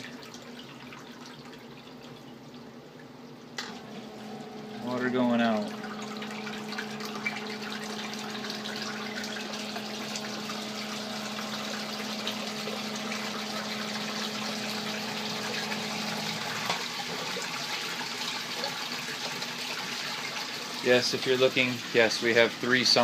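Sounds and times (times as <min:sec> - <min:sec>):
sump pump humming: 0:00.0 - 0:23.0
water running into pit: 0:03.7 - 0:23.0.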